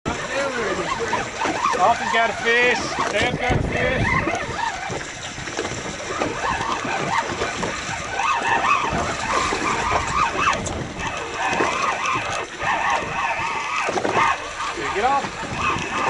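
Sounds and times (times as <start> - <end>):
water slapping against boat hull: 0.1 - 16.0.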